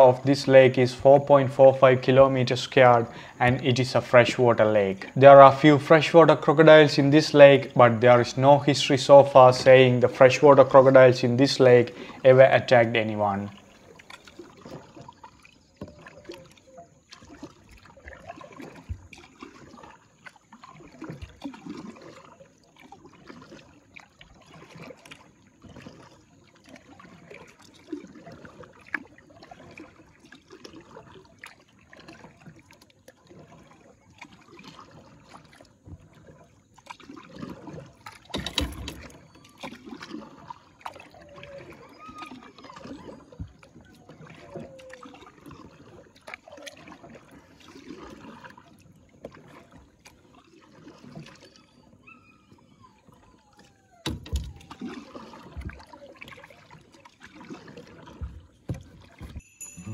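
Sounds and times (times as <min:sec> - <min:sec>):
paddle strokes in water: 0:00.0 - 0:59.9.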